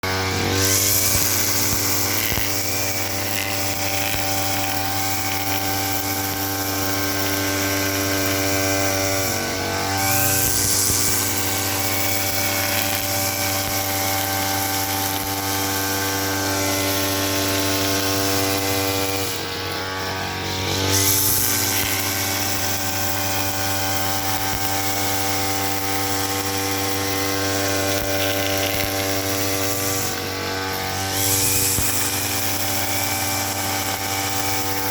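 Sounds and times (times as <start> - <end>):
lawn mower engine buzzing: 0.0 - 34.9.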